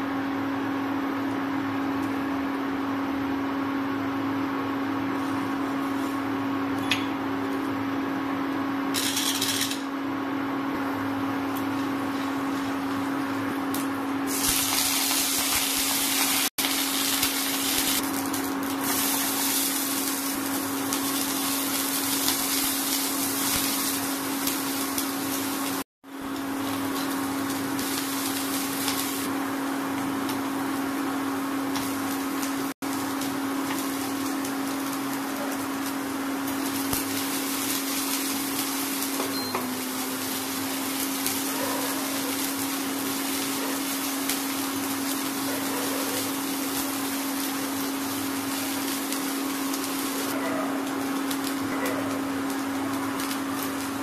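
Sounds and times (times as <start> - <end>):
electric cooktop hum: 0.0 - 54.0
oil sizzling: 4.8 - 54.0.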